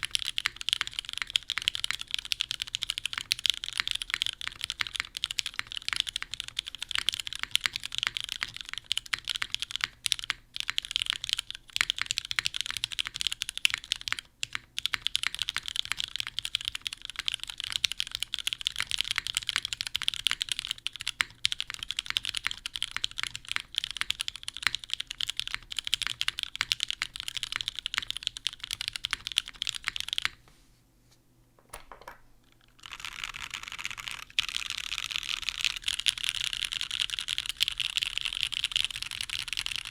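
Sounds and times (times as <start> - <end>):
typing on mechanical keyboard: 0.0 - 30.4, 32.8 - 39.9.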